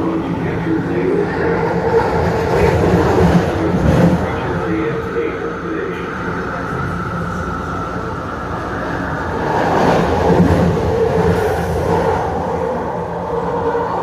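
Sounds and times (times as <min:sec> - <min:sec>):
constant hum: 0:00.0 - 0:14.0
train rumble: 0:00.0 - 0:14.0.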